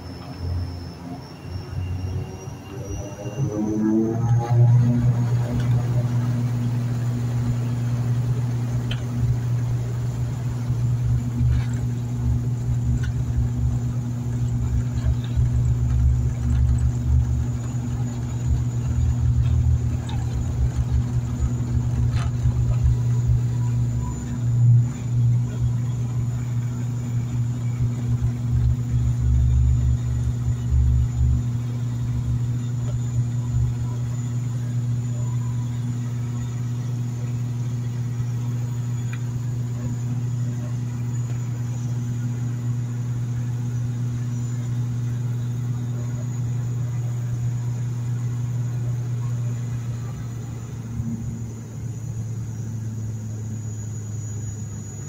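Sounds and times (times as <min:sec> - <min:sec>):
airliner engines droning: 0:00.0 - 0:55.0
wheels rumbling on runway: 0:00.0 - 0:55.0.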